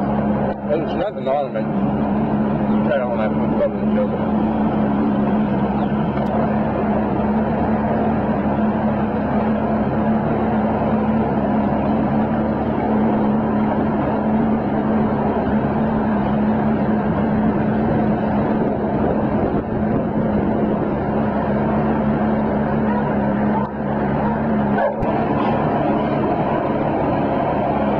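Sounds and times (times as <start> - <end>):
boat hull rushing through water: 0.0 - 27.9
outboard motor running: 0.0 - 27.9.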